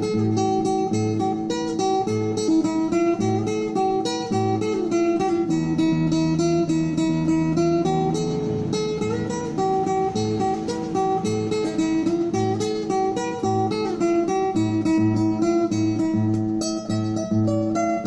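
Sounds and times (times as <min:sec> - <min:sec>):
plucked acoustic guitar: 0:00.0 - 0:18.0.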